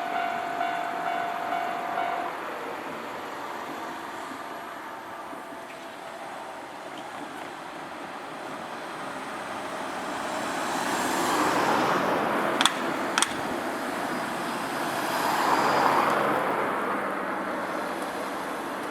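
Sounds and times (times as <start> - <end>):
vehicles passing with tyre noise: 0.0 - 18.9
wheels clacking on rails: 0.0 - 18.9.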